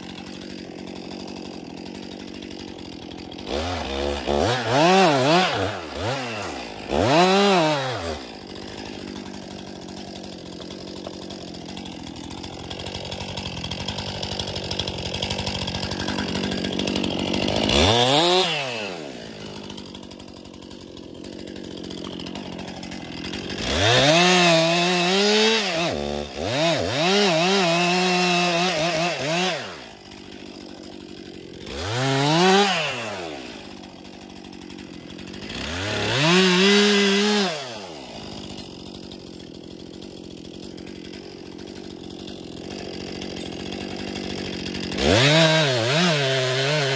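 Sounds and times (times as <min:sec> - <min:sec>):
chainsaw revving and idling: 0:00.0 - 0:46.9.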